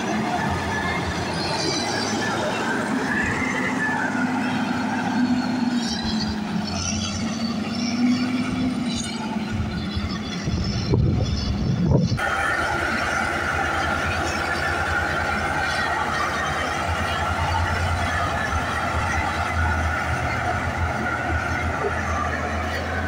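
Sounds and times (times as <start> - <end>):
diesel engine running under load: 0.0 - 23.0
high wavering squeaks: 0.0 - 23.0
road roller with high whine: 0.0 - 23.0.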